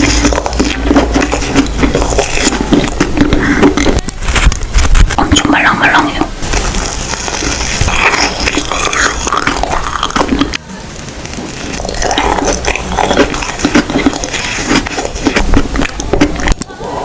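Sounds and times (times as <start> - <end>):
chewing soft marshmallows: 0.0 - 17.0.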